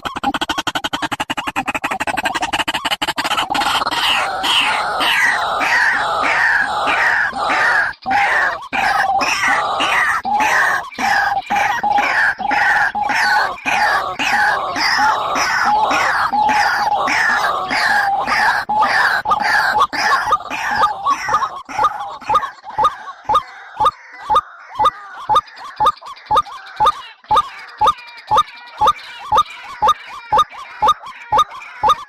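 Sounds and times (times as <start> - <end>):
recorded bird calls: 0.0 - 32.0.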